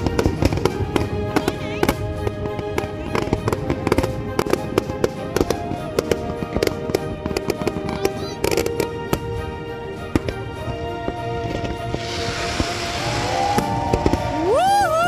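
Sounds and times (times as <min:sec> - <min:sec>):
background music: 0:00.0 - 0:15.0
fireworks bursting: 0:00.0 - 0:15.0.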